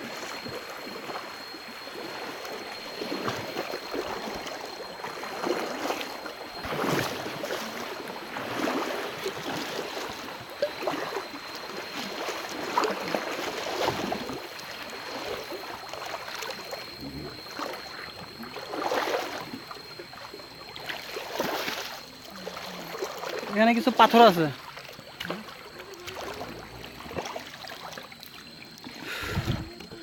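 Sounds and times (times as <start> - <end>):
stream water rushing and splashing: 0.0 - 30.0.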